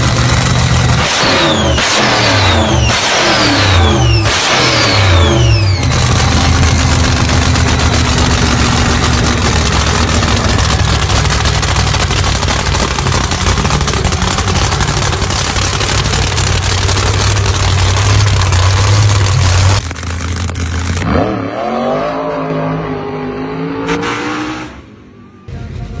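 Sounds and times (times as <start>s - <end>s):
loud engine idling: 0.0s - 21.3s.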